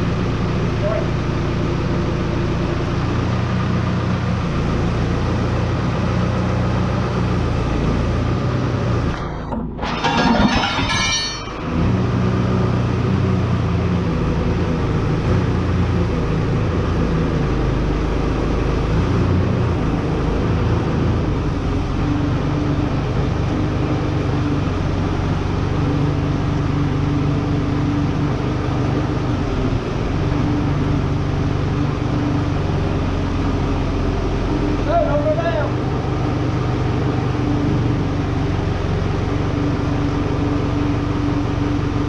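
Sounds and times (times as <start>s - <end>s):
heavy machine engine running: 0.0s - 42.0s.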